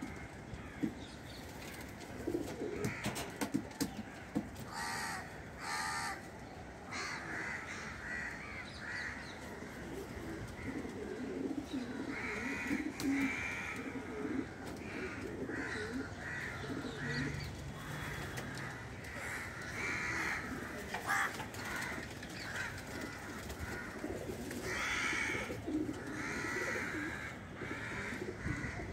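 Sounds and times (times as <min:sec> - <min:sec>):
pigeons cooing: 0:00.0 - 0:06.2, 0:07.0 - 0:28.9.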